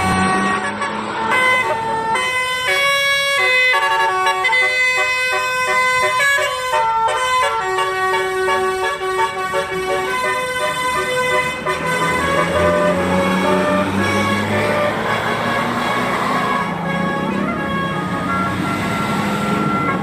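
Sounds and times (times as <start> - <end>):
musical bus horn melody: 0.0 - 20.0.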